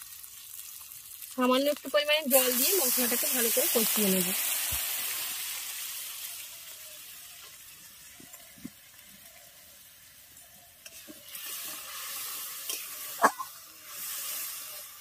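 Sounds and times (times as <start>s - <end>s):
spice paste sizzling in oil: 0.0s - 15.0s.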